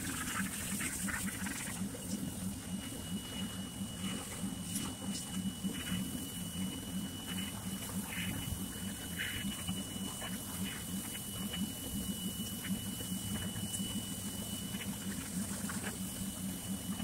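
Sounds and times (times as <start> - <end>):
pressure washer pump humming: 0.0 - 17.0.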